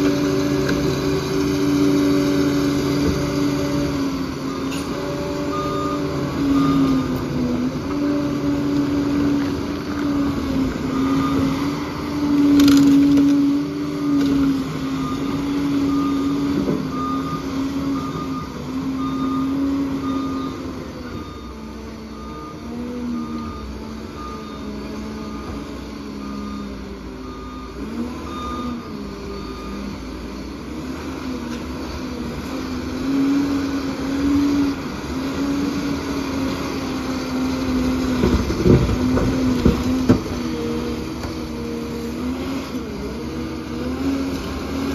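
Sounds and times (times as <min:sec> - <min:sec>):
diesel engine under load: 0:00.0 - 0:44.9
reversing alarm beeping: 0:00.0 - 0:44.9.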